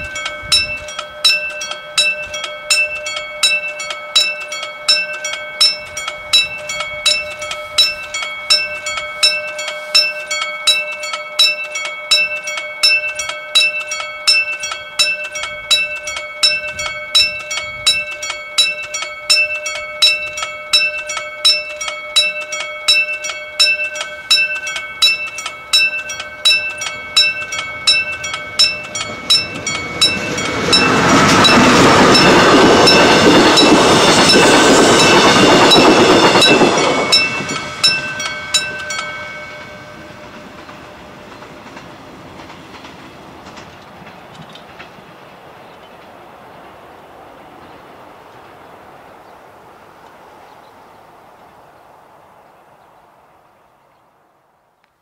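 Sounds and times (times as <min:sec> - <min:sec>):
railroad crossing bell dinging: 0:00.0 - 0:48.7
train rumbling and rattling: 0:00.0 - 0:49.2.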